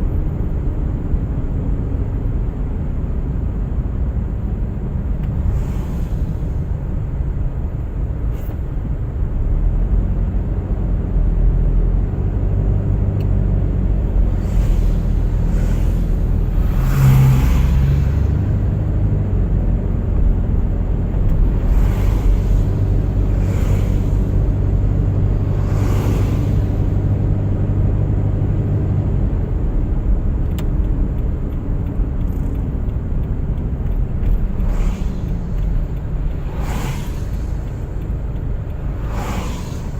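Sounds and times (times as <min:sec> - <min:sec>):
engine and tyres rumbling: 0:00.0 - 0:39.9
passing vehicles swishing: 0:00.0 - 0:39.9.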